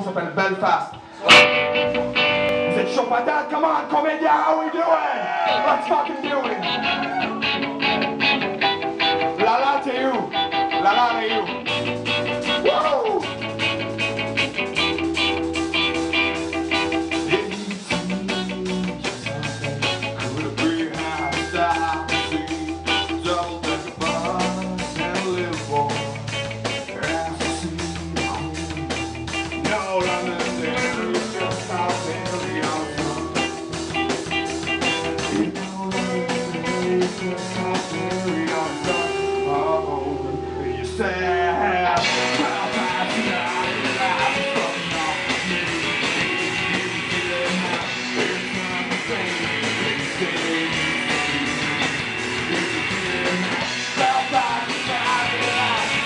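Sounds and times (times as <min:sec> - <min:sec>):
punk rock band playing: 0:00.0 - 0:56.0.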